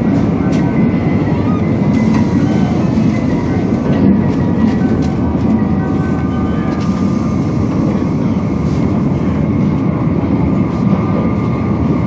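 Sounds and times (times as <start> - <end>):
train cabin rushing rumble: 0.0 - 12.0.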